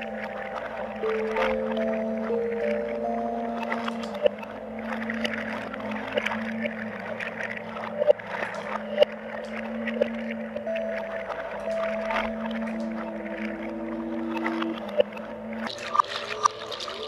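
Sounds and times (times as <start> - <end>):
sustained electronic drone notes: 0.0 - 17.0.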